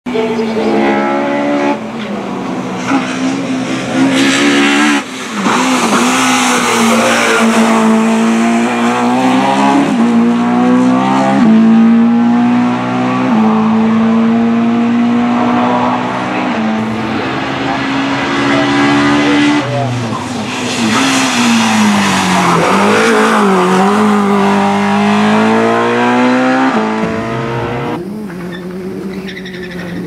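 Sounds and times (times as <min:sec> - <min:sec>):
race car engine revving: 0:00.1 - 0:30.0.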